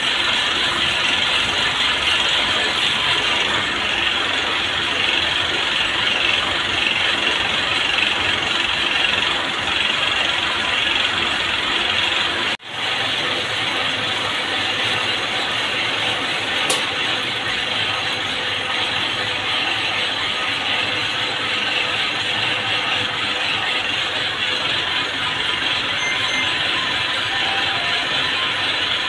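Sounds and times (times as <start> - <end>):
winding machines running: 0.0 - 29.0.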